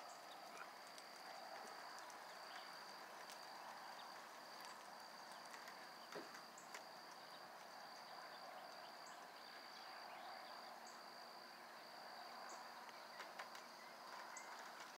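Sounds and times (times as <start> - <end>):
insects trilling: 0.0 - 14.9.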